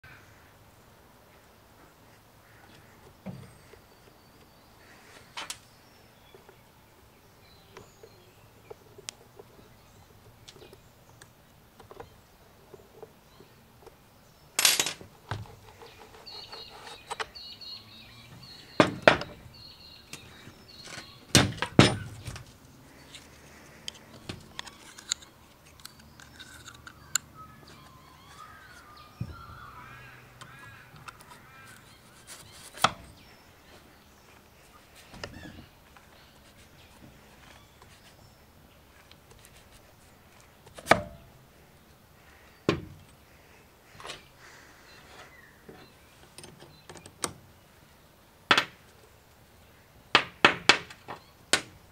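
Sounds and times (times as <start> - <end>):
birds chirping faintly: 0.0 - 51.9.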